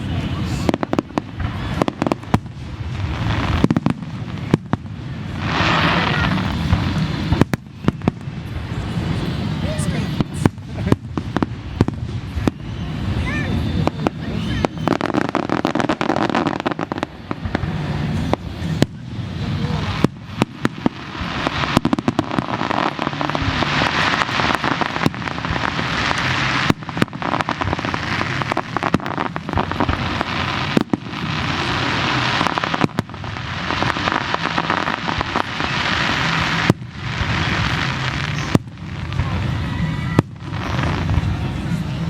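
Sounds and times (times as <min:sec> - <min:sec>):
fireworks bangs: 0:00.0 - 0:42.0
fireworks crackle: 0:00.0 - 0:42.0.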